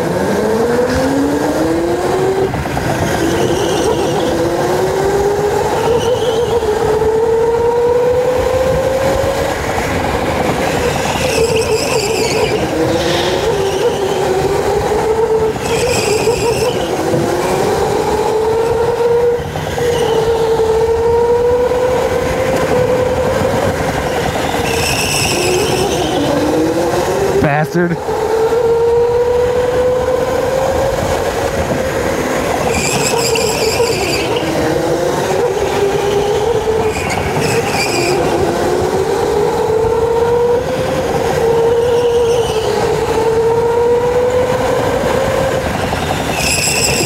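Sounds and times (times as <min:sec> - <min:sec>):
electric go-kart motor whining: 0:00.0 - 0:47.0
wheels rumbling on track: 0:00.0 - 0:47.0.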